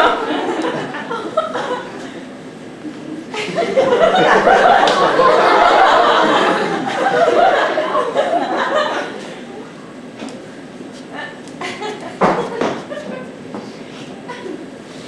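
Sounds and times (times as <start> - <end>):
audience laughter: 0.0 - 9.6, 11.6 - 14.8.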